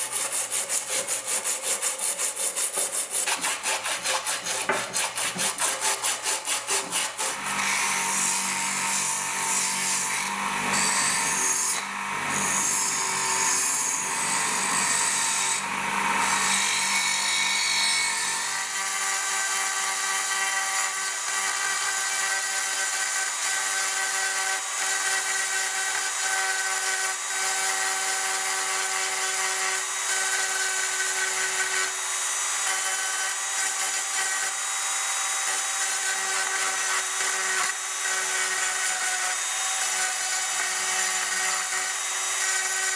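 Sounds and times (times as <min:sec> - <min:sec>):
file rasping on steel: 0:00.0 - 0:42.9.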